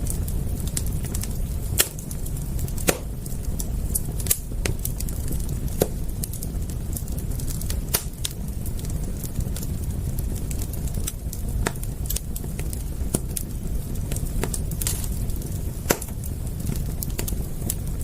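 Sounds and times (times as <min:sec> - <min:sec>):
sharp pops of fire: 0:00.0 - 0:18.0
wood fire crackling: 0:00.0 - 0:18.0.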